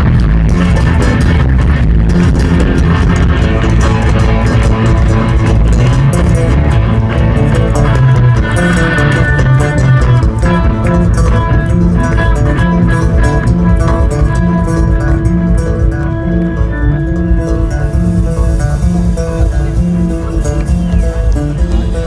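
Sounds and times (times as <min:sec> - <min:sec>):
bass guitar: 0:00.0 - 0:22.0
drum kit: 0:00.0 - 0:22.0
electric guitar: 0:00.0 - 0:22.0.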